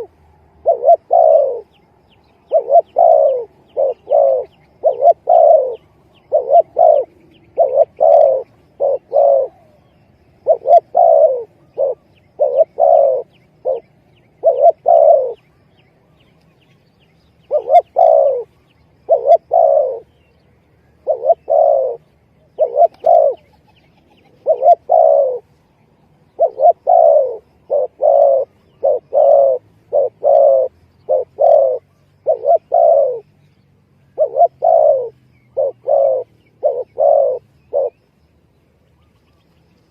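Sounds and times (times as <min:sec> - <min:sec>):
dove cooing: 0:00.0 - 0:16.3, 0:17.4 - 0:25.6, 0:26.2 - 0:33.4, 0:34.0 - 0:38.2.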